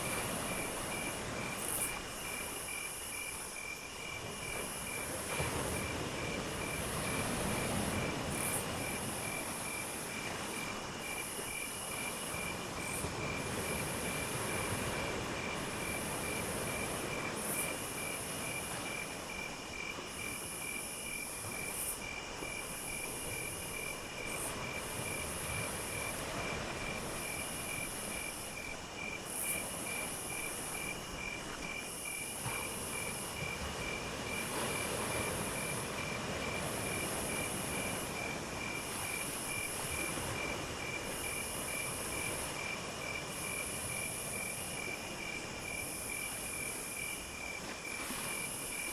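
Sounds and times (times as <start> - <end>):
crickets chirping: 0.0 - 48.9
shrill insect call: 0.0 - 48.9.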